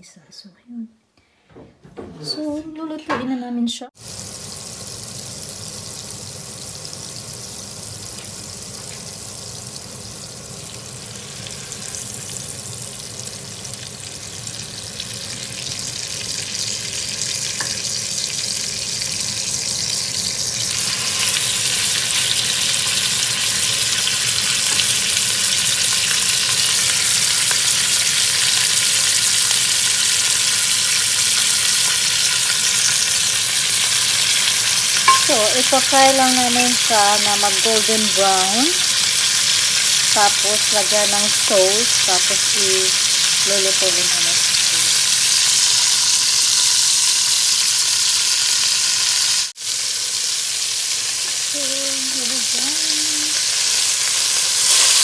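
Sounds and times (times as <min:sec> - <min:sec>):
fat sizzling in a pot: 0:04.0 - 0:55.0.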